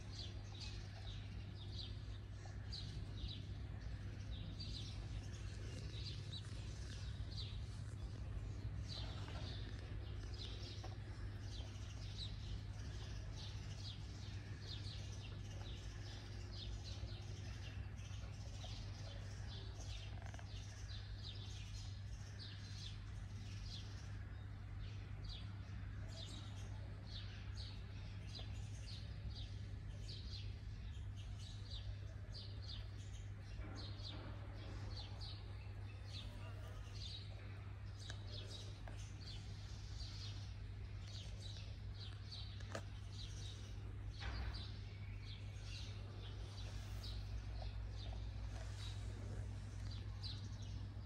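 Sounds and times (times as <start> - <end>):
small birds chirping: 0.0 - 51.0
steady low hum: 0.0 - 51.0.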